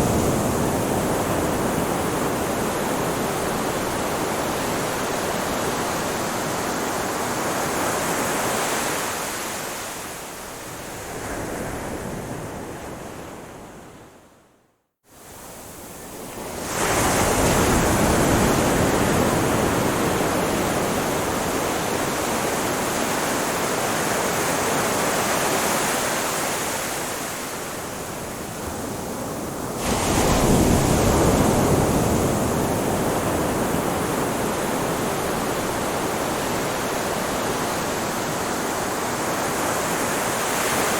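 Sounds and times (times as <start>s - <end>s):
waves washing onto shore: 0.0s - 13.4s, 15.2s - 40.9s.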